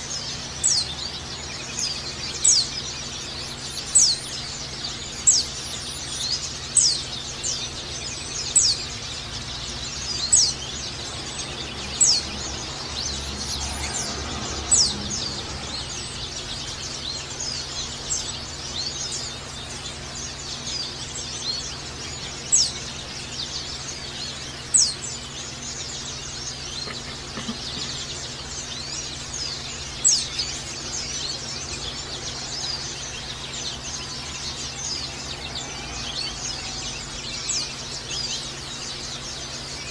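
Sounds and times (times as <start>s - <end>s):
steady high twittering: 0.0s - 39.9s.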